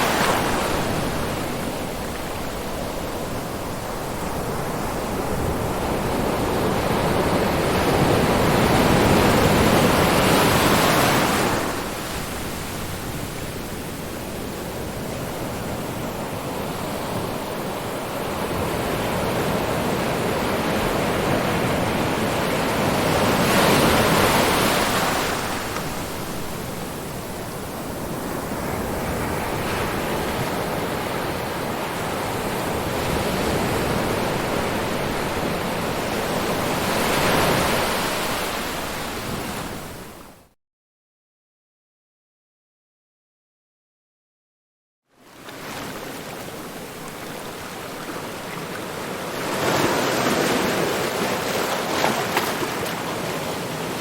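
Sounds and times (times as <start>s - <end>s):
waves breaking on shore: 0.0s - 40.4s, 45.2s - 54.0s.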